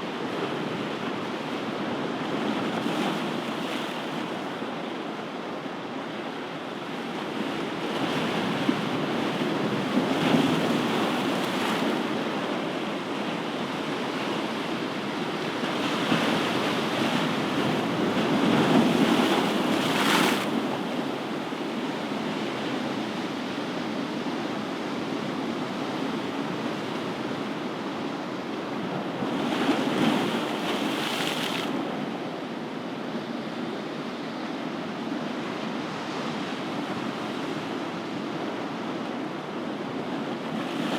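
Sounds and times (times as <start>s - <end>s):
ocean waves breaking on shore: 0.1s - 40.9s.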